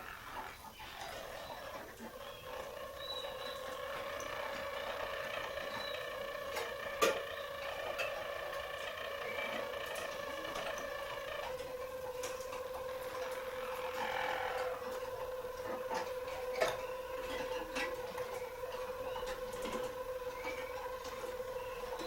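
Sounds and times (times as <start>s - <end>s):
canary singing rolling song: 0.0s - 22.0s.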